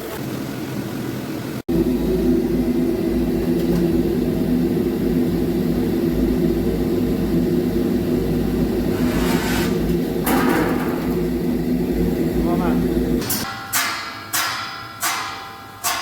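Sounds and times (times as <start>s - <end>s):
machinery humming: 0.0s - 13.6s.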